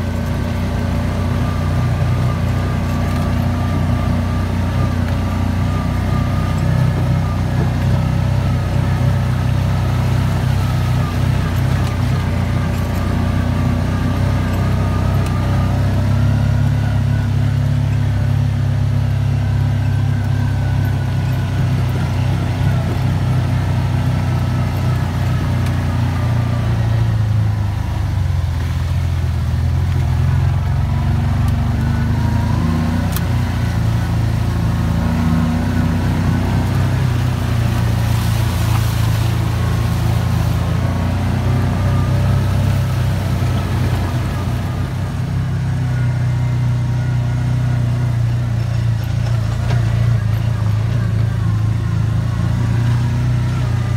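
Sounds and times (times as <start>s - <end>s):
off-road vehicle engine drone: 0.0s - 53.9s.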